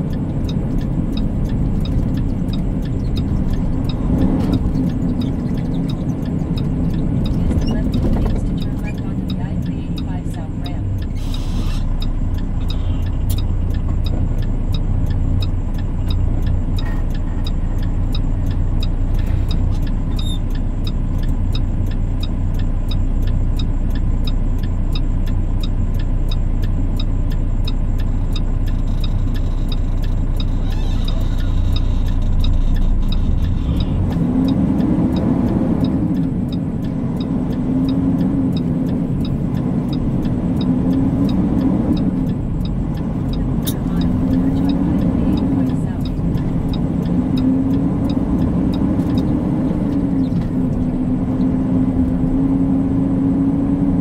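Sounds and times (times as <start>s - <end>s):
truck diesel engine: 0.0s - 54.0s.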